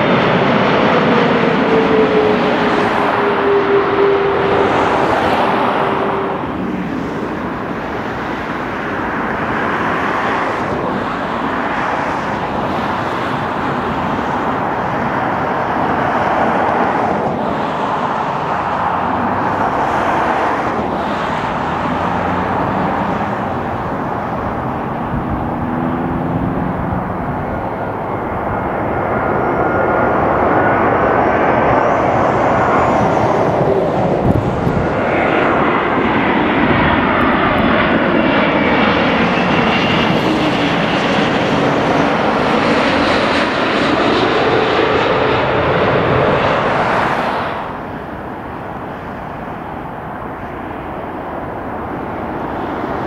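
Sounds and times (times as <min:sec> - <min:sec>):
faint high engine whine: 0:00.0 - 0:53.0
jet engines rushing drone: 0:00.0 - 0:53.0.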